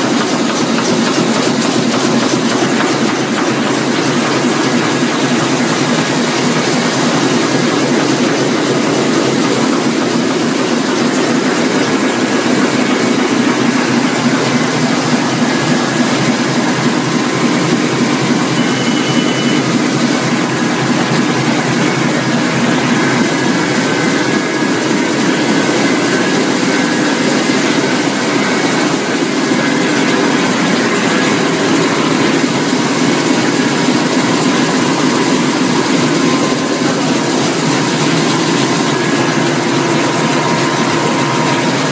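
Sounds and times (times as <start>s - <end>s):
printing press clattering: 0.0s - 41.9s.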